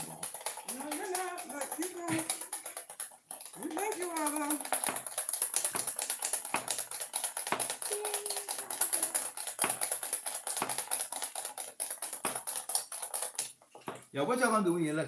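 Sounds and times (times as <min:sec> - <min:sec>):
whisk clinking in metal bowl: 0:00.0 - 0:14.1.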